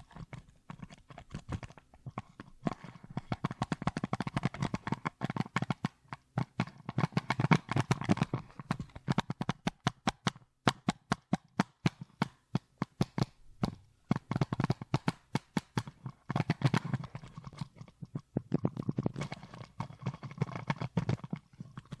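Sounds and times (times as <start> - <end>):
fingertips tapping plastic bottle: 0.0 - 22.0.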